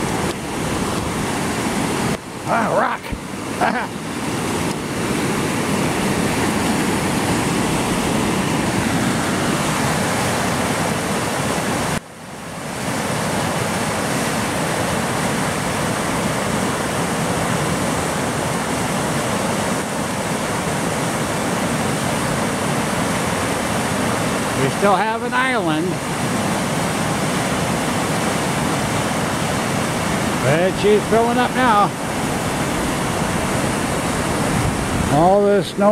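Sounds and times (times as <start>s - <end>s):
river rushing over rocks: 0.0s - 35.9s.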